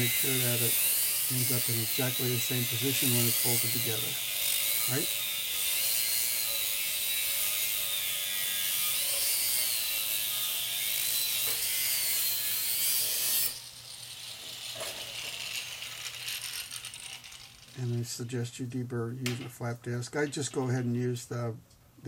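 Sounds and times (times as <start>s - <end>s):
angle grinder cutting steel: 0.0s - 17.9s.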